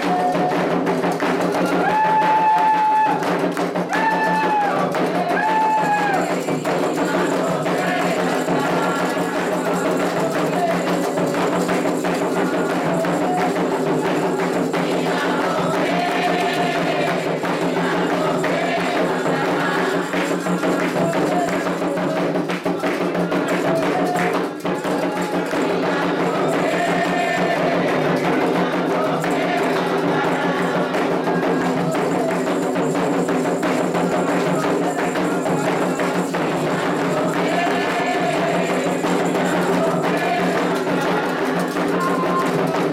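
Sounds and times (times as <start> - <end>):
hand drums playing a rhythm: 0.0 - 42.9
sharp percussive strikes: 0.0 - 42.9
voices singing: 0.0 - 42.9.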